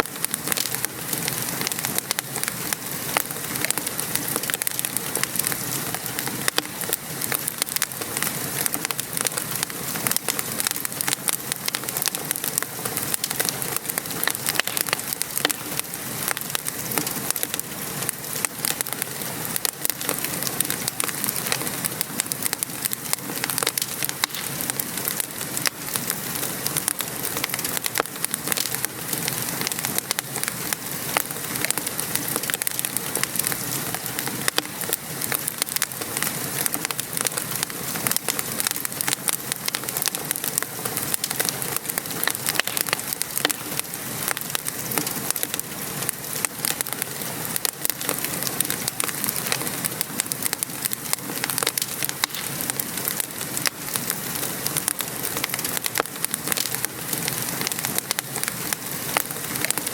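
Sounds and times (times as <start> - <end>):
gentle rain falling: 0.0 - 59.9
wood fire crackling: 0.0 - 59.9.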